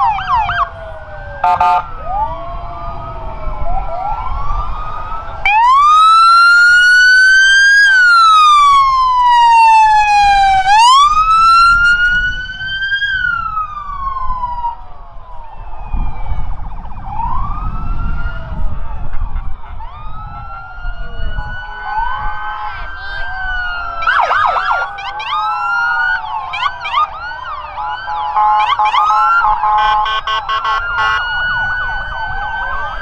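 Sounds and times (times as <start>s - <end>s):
emergency vehicle sirens wailing: 0.0s - 33.0s
low vehicle rumble: 0.0s - 33.0s.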